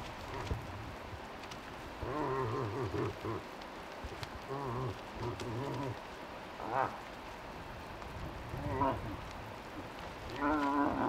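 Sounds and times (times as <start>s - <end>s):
rain dripping: 0.0s - 11.0s.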